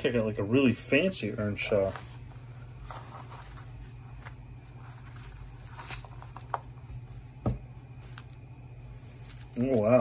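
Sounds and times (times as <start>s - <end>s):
steady low hum: 0.0s - 10.0s
paper and cardboard rustling: 1.4s - 10.0s.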